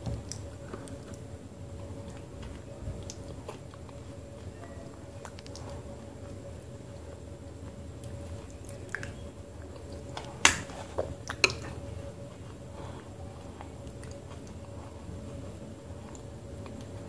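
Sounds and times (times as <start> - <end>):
faint steady hum: 0.0 - 17.0
person chewing paste: 0.3 - 10.4, 11.0 - 17.0.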